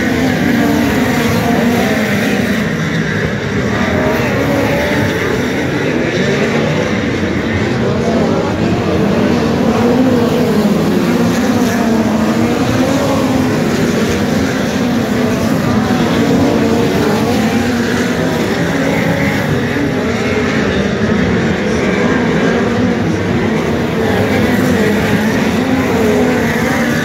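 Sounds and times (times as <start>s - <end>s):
race car engines roaring: 0.0s - 27.0s.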